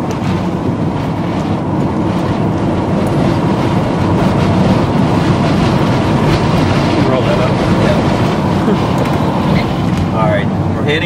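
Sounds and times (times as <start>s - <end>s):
car road noise: 0.0s - 11.0s
wind rushing: 0.0s - 11.0s.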